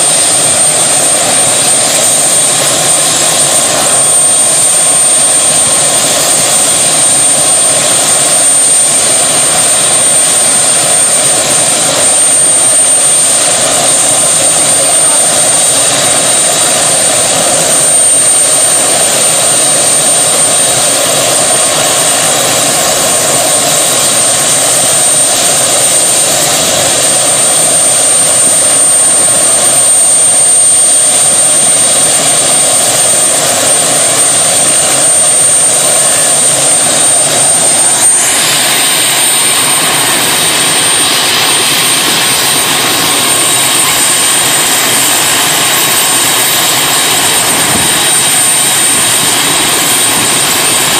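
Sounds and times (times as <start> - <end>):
helicopter engine and rotor noise: 0.0 - 50.9
high whine: 0.0 - 50.9.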